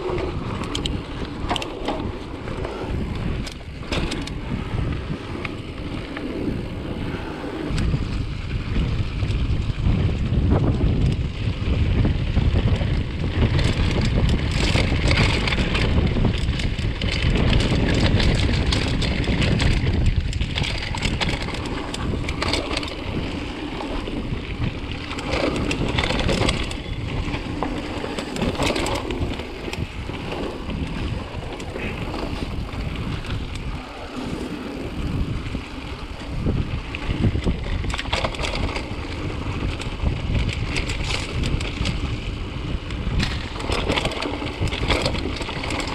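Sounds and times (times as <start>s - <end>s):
bike clicks and rattles: 0.0s - 45.9s
bike tyres rolling on dirt: 0.0s - 45.9s
wind buffeting microphone: 0.0s - 45.9s.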